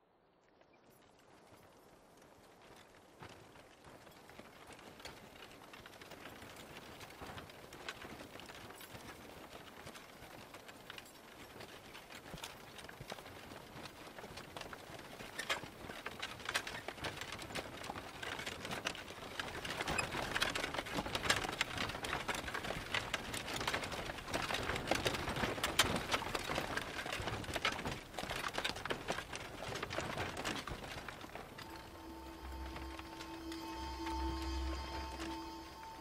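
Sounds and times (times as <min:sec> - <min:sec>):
hooves clopping on dry ground: 0:00.7 - 0:33.2
wooden wagon rattling: 0:02.6 - 0:31.7.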